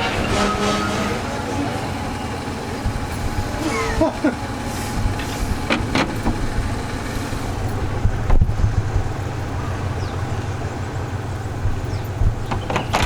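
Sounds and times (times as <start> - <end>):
diesel train engine droning: 0.0 - 13.0.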